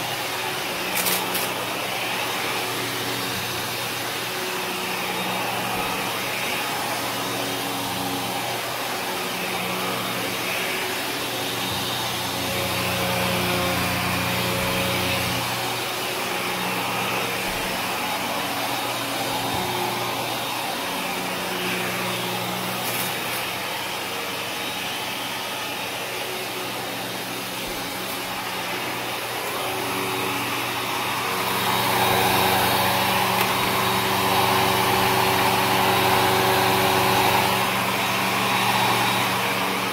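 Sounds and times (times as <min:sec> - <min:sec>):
upright vacuum running: 0:00.0 - 0:39.9.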